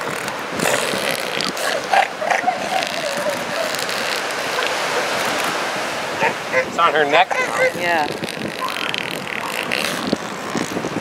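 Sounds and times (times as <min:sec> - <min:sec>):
surf and wind hiss: 0:00.0 - 0:11.0
elephant seal wavering call: 0:00.1 - 0:05.6, 0:06.2 - 0:10.8.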